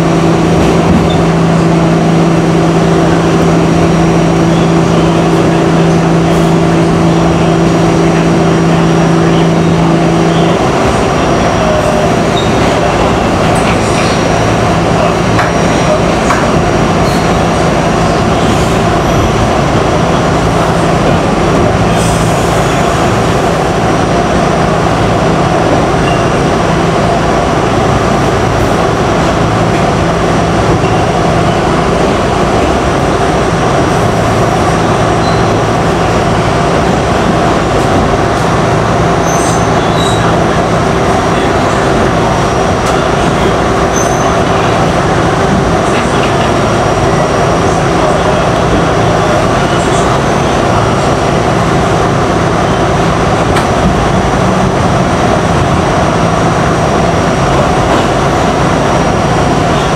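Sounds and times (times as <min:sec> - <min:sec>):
subway wheels rumbling on rail: 0:00.0 - 0:59.9.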